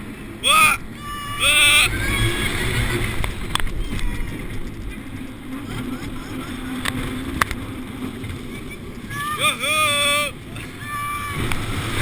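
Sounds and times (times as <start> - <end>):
roller coaster wheels rumbling on rails: 0.0 - 12.0
wind rushing over microphone: 0.0 - 12.0.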